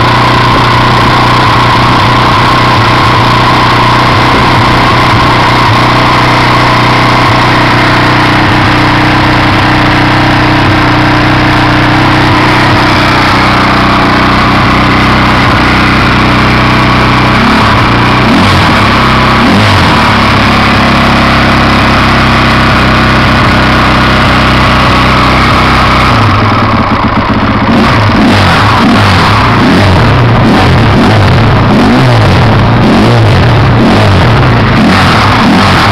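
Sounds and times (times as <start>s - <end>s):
motorcycle engine idling: 0.0s - 35.9s
motorcycle throttle blips: 0.0s - 35.9s.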